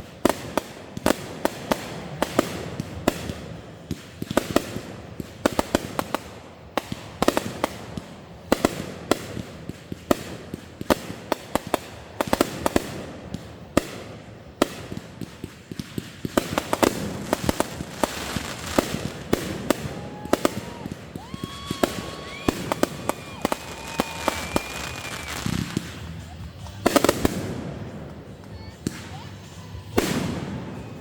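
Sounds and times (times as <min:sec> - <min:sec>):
fireworks banging: 0:00.0 - 0:31.0
fireworks crackle and rumble: 0:00.0 - 0:31.0.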